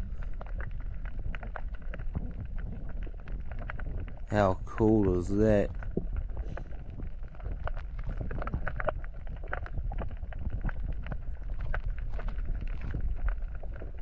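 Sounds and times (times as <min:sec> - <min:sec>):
small sharp clicks and crackles: 0:00.0 - 0:14.0
underwater low rumble: 0:00.0 - 0:14.0.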